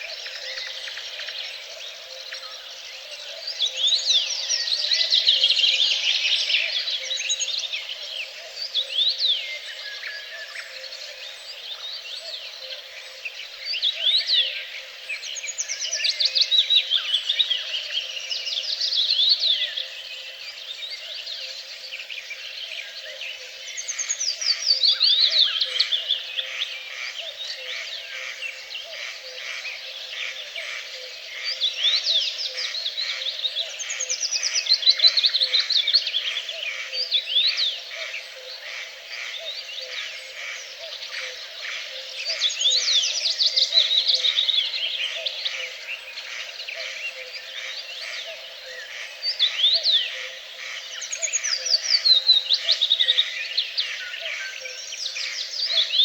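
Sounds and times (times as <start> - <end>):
chorus of chirping birds: 0.0 - 56.0.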